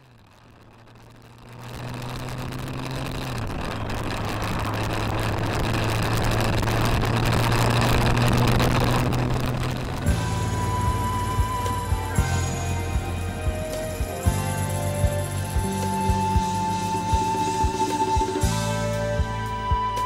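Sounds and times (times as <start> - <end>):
motorcycle engine running: 0.0 - 20.0
wind rush on microphone: 1.7 - 20.0.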